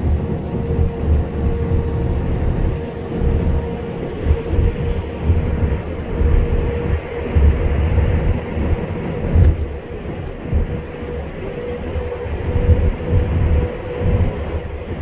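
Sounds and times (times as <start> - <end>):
tyres and engine rumble: 0.0 - 15.0.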